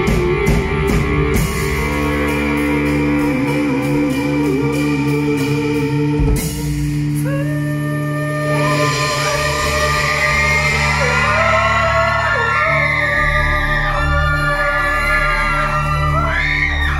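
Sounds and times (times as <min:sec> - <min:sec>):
live pop rock band: 0:00.0 - 0:16.9
man singing: 0:00.0 - 0:16.9.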